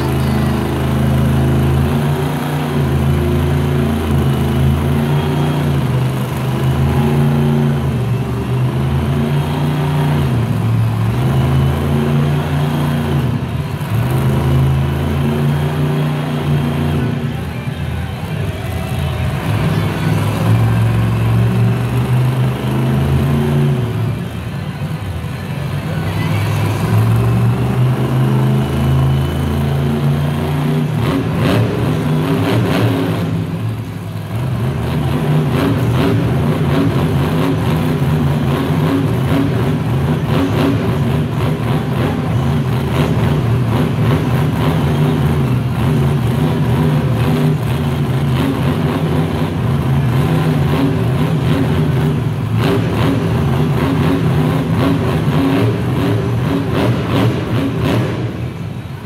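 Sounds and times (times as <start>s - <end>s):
truck engine revving loudly: 0.0s - 59.0s.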